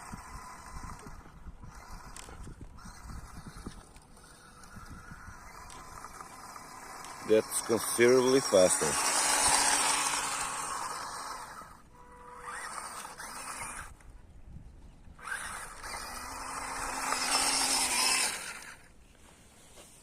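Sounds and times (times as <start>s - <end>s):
toy truck motor and gears whining: 0.0s - 14.2s, 15.0s - 19.0s
tyres on dry ground: 0.0s - 20.0s.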